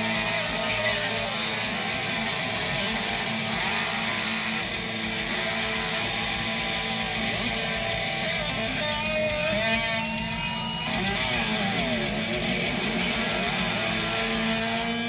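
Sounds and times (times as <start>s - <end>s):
heavy rock band playing: 0.0s - 15.0s
loud electric guitar: 0.0s - 15.0s.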